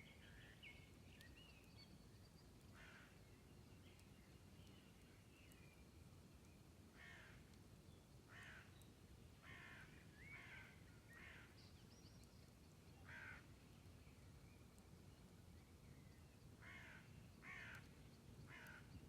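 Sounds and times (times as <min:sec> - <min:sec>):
low steady background hiss: 0:00.0 - 0:19.0.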